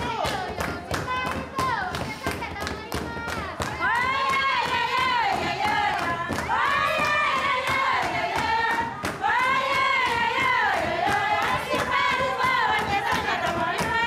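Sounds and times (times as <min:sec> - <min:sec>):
clapping: 0:00.0 - 0:14.0
women singing together: 0:00.0 - 0:14.0.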